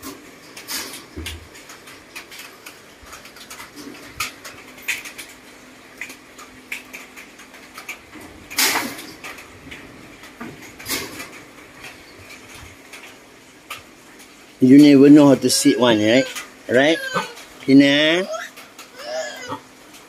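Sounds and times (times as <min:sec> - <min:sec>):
monkeys knocking and rattling cage: 0:00.0 - 0:13.9, 0:15.8 - 0:20.0.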